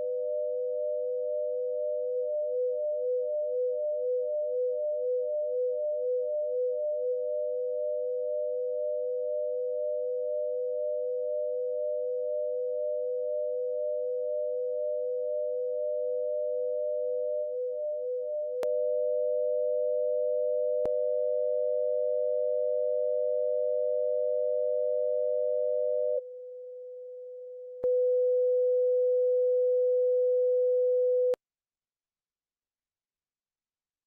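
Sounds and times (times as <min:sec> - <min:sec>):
steady sine tones: 0:00.0 - 0:31.4.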